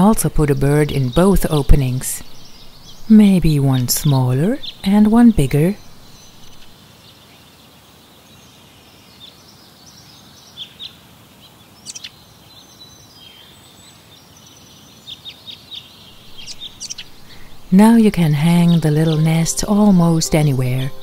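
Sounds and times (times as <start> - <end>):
outdoor background hiss: 0.0 - 21.0
songbirds chirping: 0.0 - 21.0.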